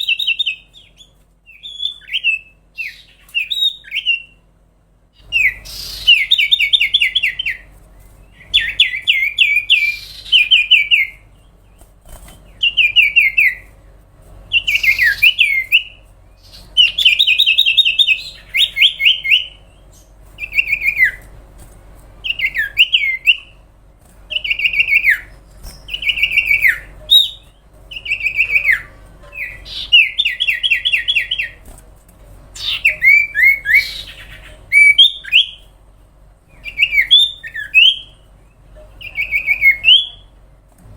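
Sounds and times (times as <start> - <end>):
bird trilled song: 0.0 - 4.5, 5.2 - 13.8, 14.4 - 21.4, 22.2 - 31.6, 32.5 - 35.7, 36.5 - 40.4.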